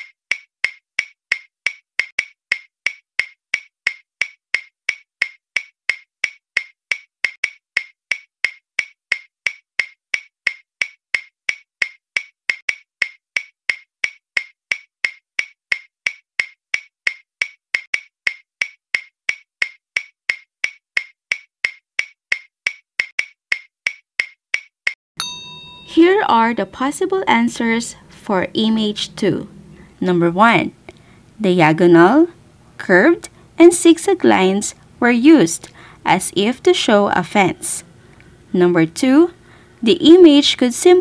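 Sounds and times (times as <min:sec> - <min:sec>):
timer ticking: 0:00.0 - 0:24.4, 0:25.2 - 0:41.0.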